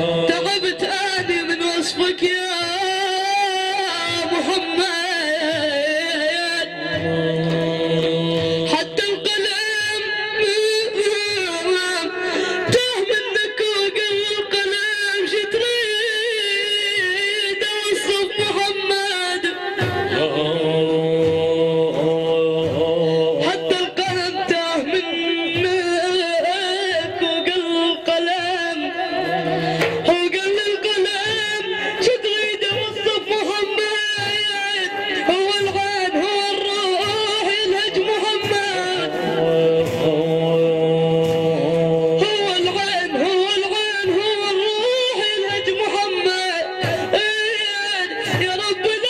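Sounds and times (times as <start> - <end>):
man singing melismatic praise song: 0.0 - 49.0.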